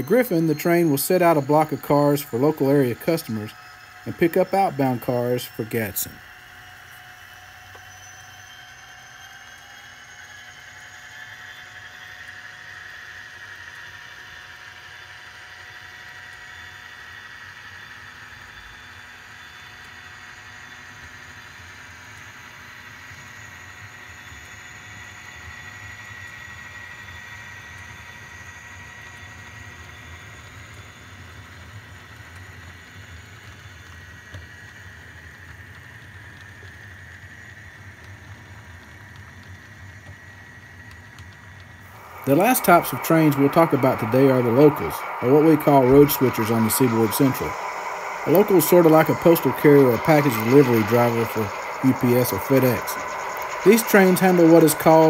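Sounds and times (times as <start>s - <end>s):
model train whine and rumble: 0.0s - 55.0s.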